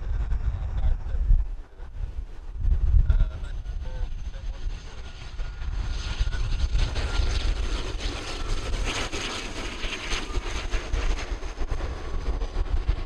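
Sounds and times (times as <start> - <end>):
turboprop airliner landing: 0.0 - 13.0
wind rumble on microphone: 0.0 - 13.0.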